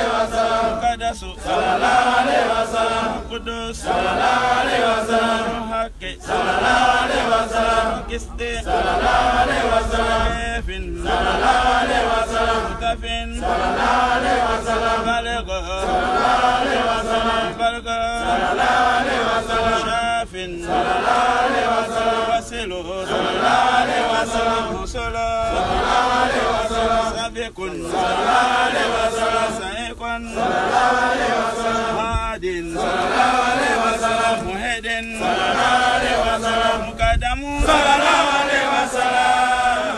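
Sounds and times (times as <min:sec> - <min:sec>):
men chanting: 0:00.0 - 0:39.9.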